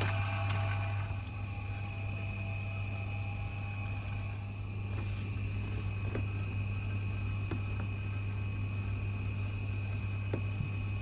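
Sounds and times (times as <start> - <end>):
high-pitched whine: 0.0 - 11.0
low machine hum: 0.0 - 11.0.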